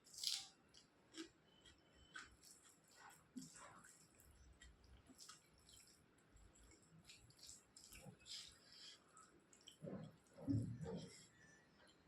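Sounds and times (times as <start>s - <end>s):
wet chewing sounds: 0.0s - 12.0s.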